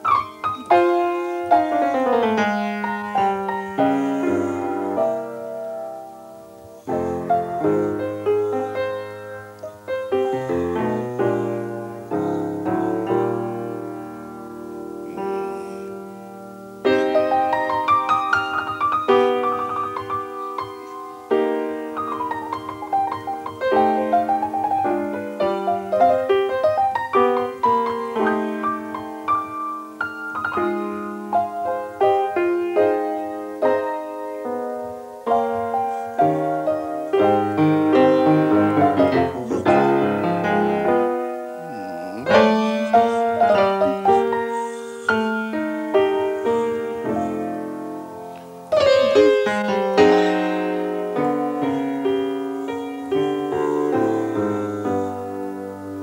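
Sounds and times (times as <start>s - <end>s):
solo jazz piano: 0.0s - 56.0s.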